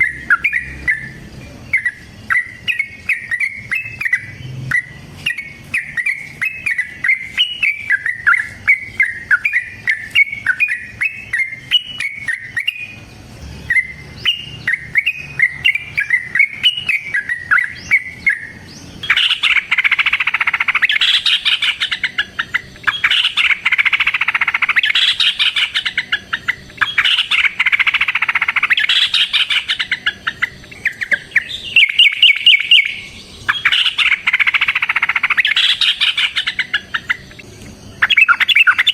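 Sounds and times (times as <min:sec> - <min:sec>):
bird chirping: 0:00.0 - 0:38.9
bird rapid chattering rolls: 0:00.0 - 0:38.9.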